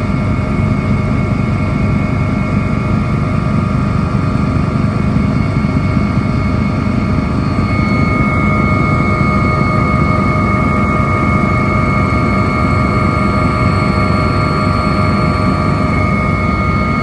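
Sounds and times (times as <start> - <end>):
helicopter engine and rotor: 0.0 - 17.0
high whine: 0.0 - 17.0.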